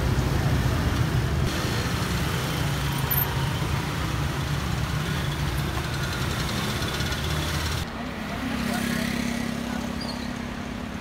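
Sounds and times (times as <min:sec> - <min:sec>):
scooters and cars passing: 0:00.0 - 0:11.0.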